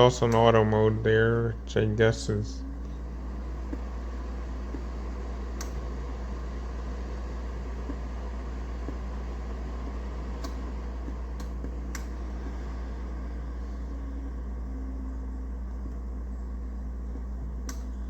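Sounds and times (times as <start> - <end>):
space heater fan whirring: 0.0 - 18.0.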